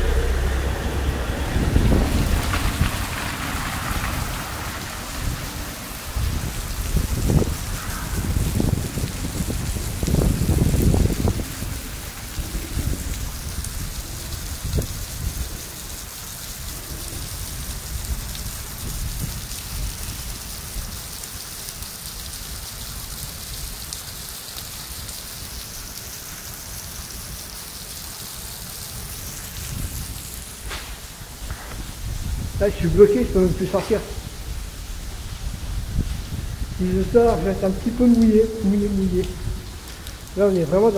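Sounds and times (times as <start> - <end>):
heavy rain on pavement: 0.0 - 40.9.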